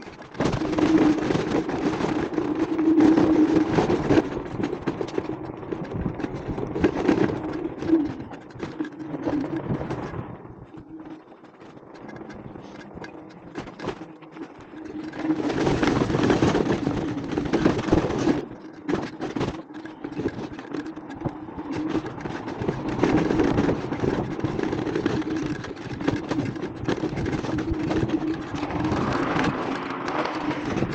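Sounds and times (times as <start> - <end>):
scooter humming: 0.0 - 30.9.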